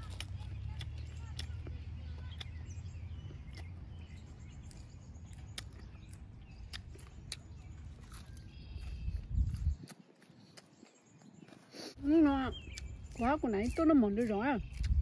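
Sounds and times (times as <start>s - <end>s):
birds chirping faintly: 0.0s - 15.0s
people chewing: 0.0s - 15.0s.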